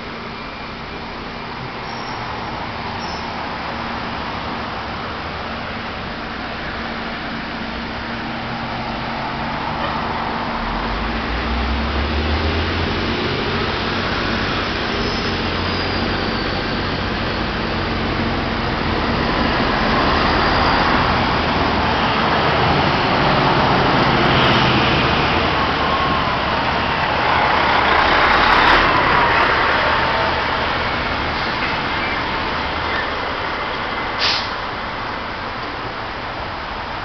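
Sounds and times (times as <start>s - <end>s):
car and bus traffic: 0.0s - 37.0s.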